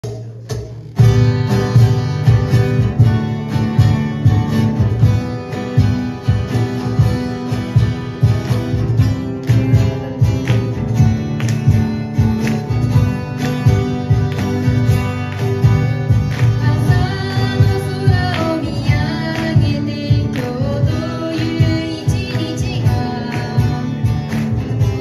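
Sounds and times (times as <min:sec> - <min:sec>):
acoustic guitars strumming: 0:00.0 - 0:25.0
cajon thumps: 0:00.0 - 0:25.0.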